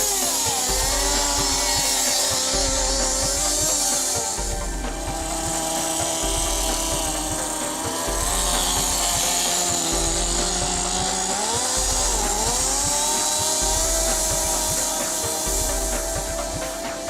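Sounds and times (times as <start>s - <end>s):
music with pulsing bass: 0.0s - 17.0s
small model engine running: 0.0s - 17.0s.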